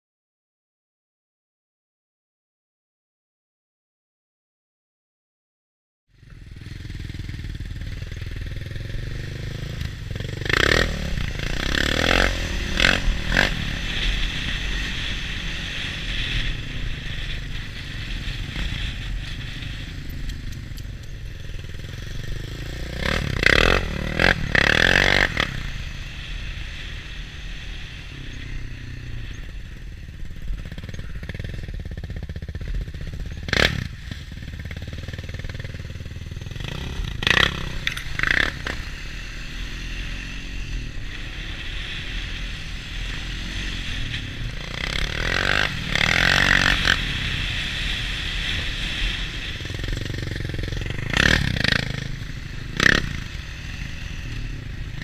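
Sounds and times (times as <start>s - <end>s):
atv engine running: 6.1s - 55.0s.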